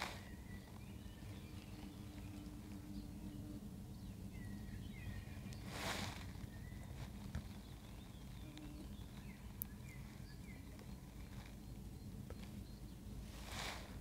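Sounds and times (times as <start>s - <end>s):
faint birdsong chirps: 0.0s - 14.0s
wind rumble on microphone: 0.0s - 14.0s.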